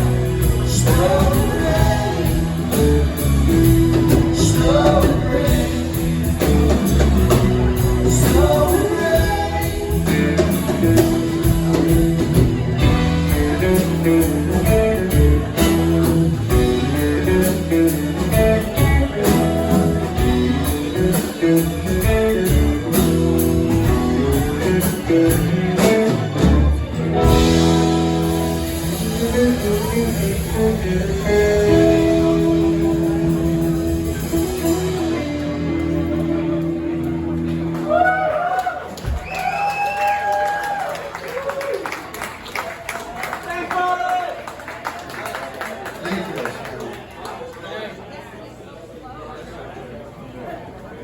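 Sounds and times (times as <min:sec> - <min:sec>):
rock band playing: 0:00.0 - 0:41.3.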